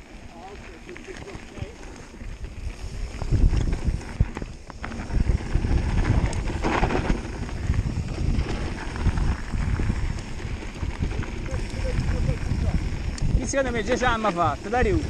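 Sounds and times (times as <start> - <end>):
bike rattling: 0.0 - 15.0
tyres crunching over gravel: 0.0 - 15.0
wind buffeting microphone: 0.0 - 15.0.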